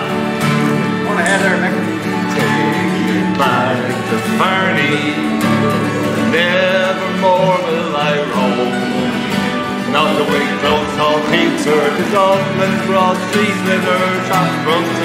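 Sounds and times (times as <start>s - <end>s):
acoustic guitars strumming: 0.0s - 15.0s
button accordion: 0.0s - 15.0s
person singing: 0.0s - 15.0s.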